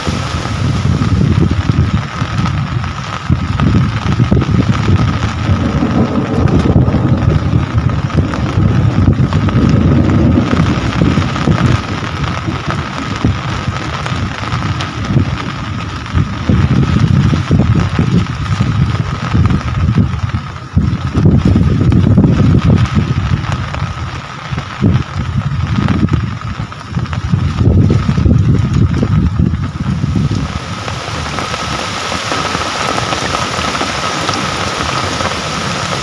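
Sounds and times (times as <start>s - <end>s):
heavy rain falling: 0.0s - 36.0s
wind rumble on microphone: 0.0s - 36.0s.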